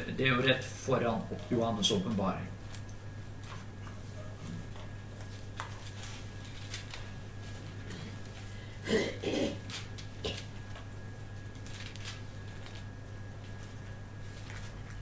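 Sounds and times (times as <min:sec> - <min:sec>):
pages rustling: 0:01.3 - 0:08.6, 0:09.6 - 0:15.0.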